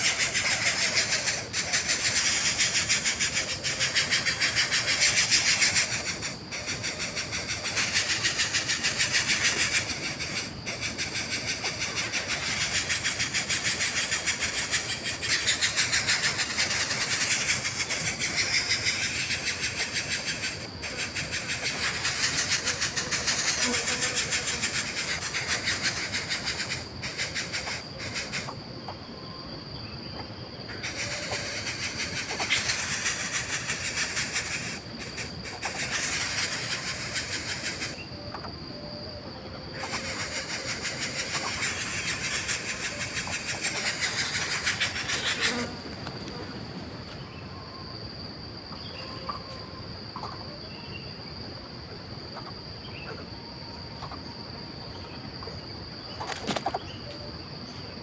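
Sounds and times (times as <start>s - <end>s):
insects rasping buzz: 0.0s - 58.0s.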